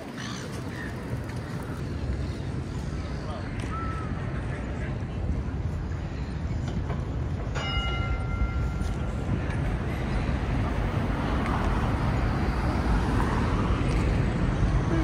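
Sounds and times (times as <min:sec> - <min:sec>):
passing vehicles rumbling: 0:00.0 - 0:15.0
tram going by: 0:00.0 - 0:15.0.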